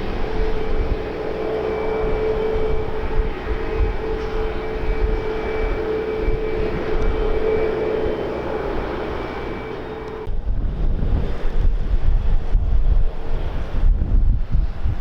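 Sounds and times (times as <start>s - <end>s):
aircraft engine droning: 0.0s - 15.0s
wind rumble on microphone: 0.0s - 15.0s.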